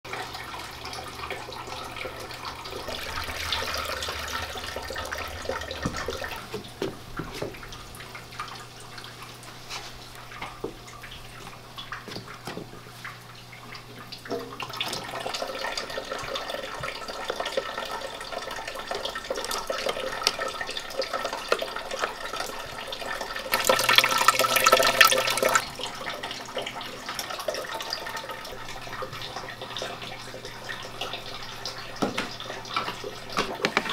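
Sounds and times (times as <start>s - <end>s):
water trickling and splashing: 0.1s - 33.9s.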